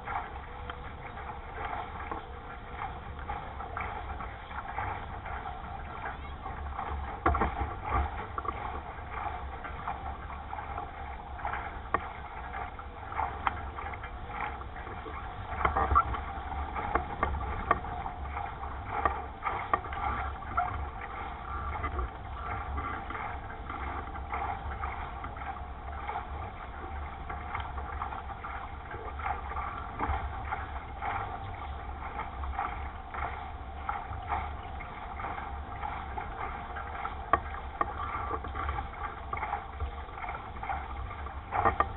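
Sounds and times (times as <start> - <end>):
water rushing along a hull: 0.0 - 41.9.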